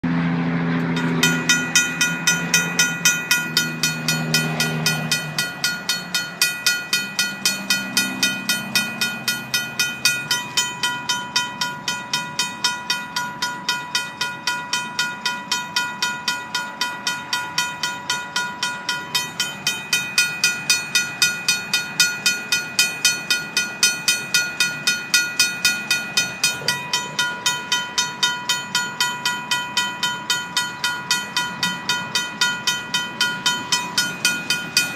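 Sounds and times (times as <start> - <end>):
railroad crossing bell ringing: 0.1 - 34.9.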